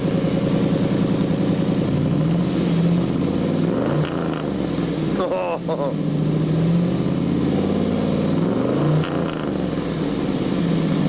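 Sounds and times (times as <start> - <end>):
car engine lumpy idle: 0.0 - 11.0.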